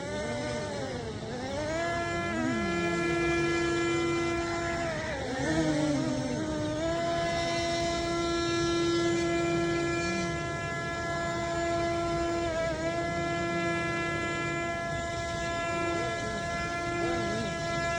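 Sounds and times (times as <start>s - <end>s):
drone propellers whining: 0.0s - 17.9s.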